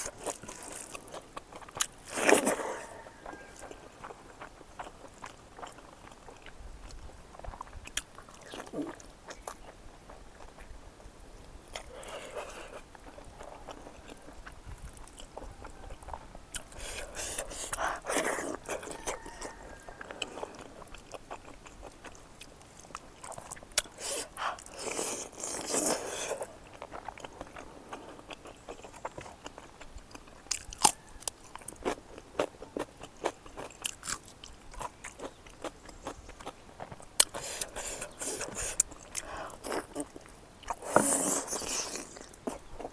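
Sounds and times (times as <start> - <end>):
person chewing: 0.0 - 10.7, 11.7 - 42.9.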